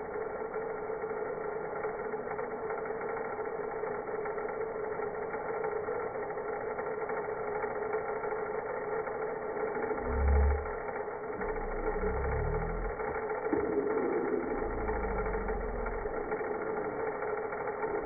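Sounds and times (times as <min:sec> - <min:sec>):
slowed vacuum cleaner drone: 0:00.0 - 0:18.0.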